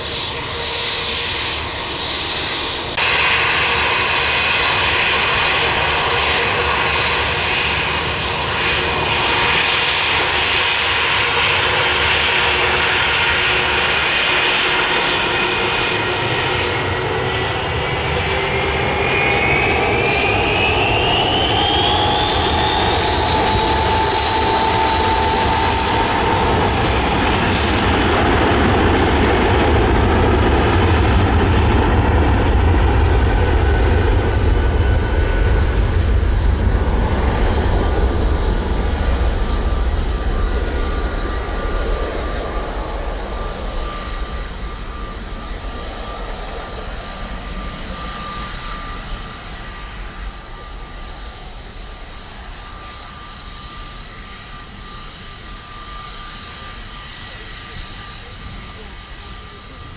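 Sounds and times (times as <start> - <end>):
jet engines roaring: 0.0 - 59.9
rising engine whine: 0.0 - 59.9.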